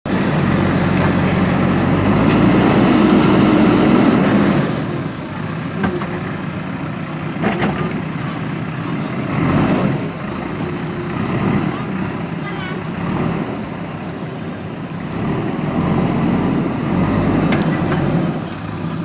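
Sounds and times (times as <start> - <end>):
diesel engine running: 0.1 - 19.0.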